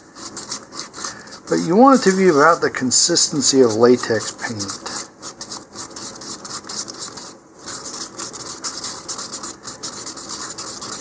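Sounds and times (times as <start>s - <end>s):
stirring and scraping in a cup: 0.0s - 11.0s.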